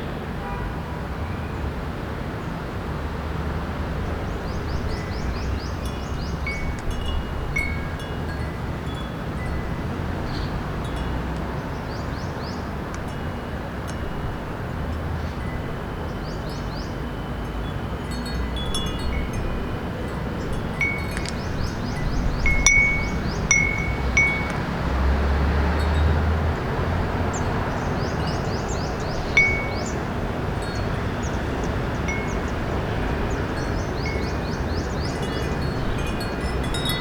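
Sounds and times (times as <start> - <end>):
city traffic hum: 0.0 - 37.0
wind chime ringing: 4.8 - 11.5, 13.0 - 37.0.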